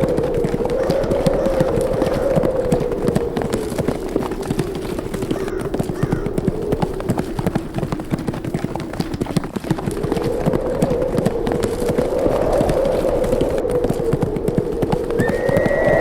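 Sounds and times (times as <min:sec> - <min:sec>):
horse hooves pounding: 0:00.0 - 0:16.0
howling wind: 0:00.0 - 0:16.0.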